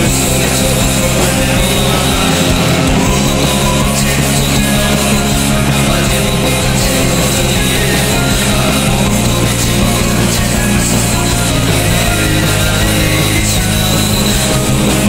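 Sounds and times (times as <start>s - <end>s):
distorted guitars: 0.0s - 15.0s
sustained bass notes: 0.0s - 15.0s.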